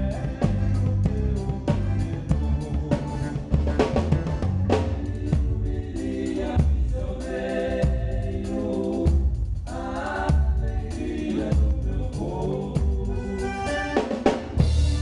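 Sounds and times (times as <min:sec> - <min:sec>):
band playing a song: 0:00.0 - 0:15.0
drum kit beat: 0:00.0 - 0:15.0.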